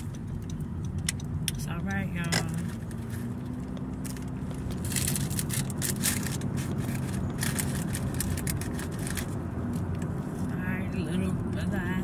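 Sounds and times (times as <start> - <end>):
low car hum: 0.0 - 12.0.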